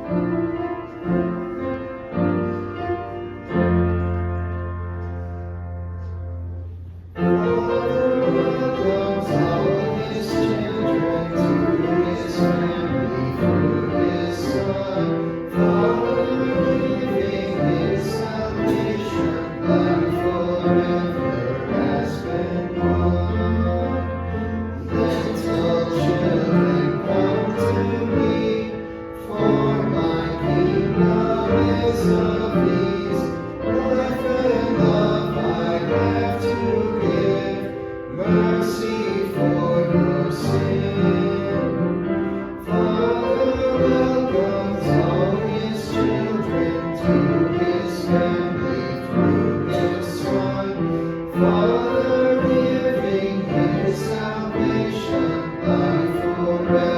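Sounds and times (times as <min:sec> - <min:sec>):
keyboard accompaniment: 0:00.0 - 0:56.9
voices singing a hymn: 0:07.2 - 0:56.9.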